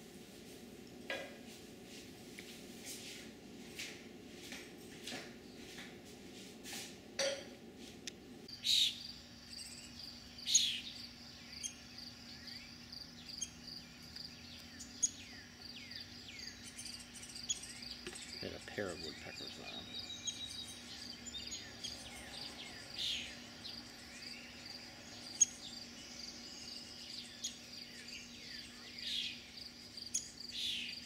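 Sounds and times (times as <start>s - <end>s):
songbirds chirping: 0.6s - 6.5s, 8.0s - 31.0s.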